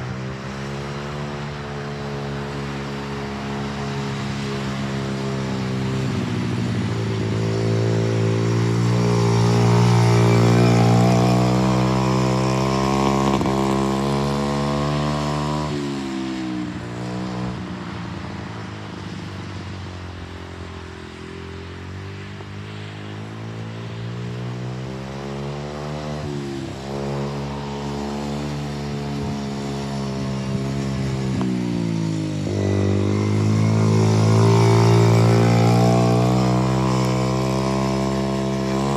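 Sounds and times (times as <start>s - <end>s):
atv engine revving: 0.0s - 17.9s, 20.2s - 38.9s.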